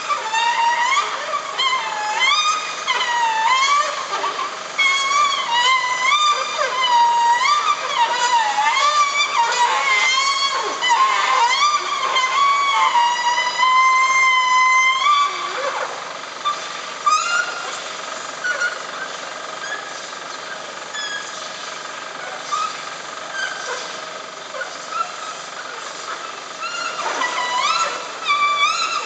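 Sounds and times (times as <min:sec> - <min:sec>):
high-pitched screeching squeal: 0:00.0 - 0:29.0.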